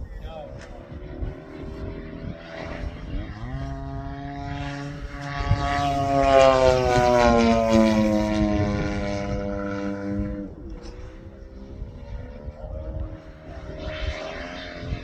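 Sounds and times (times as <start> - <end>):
model plane motor droning: 0.7 - 15.0.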